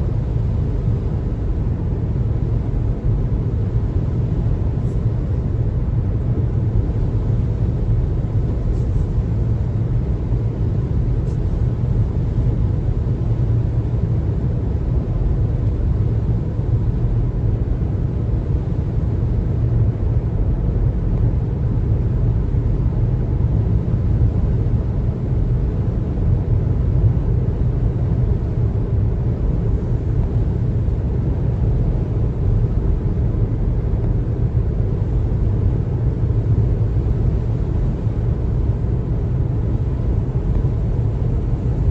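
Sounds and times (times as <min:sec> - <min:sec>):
car road and tyre rumble: 0:00.0 - 0:41.9.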